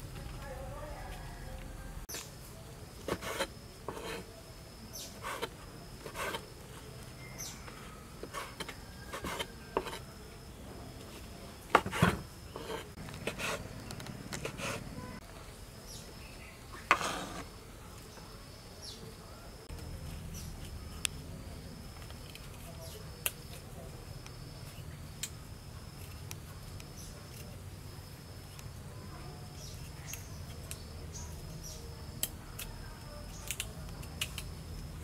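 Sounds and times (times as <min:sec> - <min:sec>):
high insect chirp: 0:02.1 - 0:35.0.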